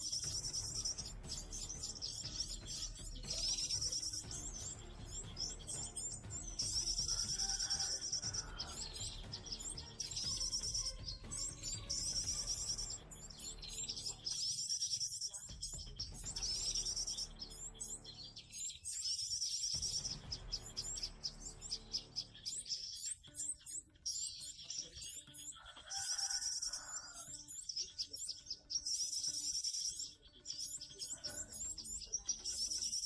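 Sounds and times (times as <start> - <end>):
birds chirping and trilling: 0.0 - 33.0.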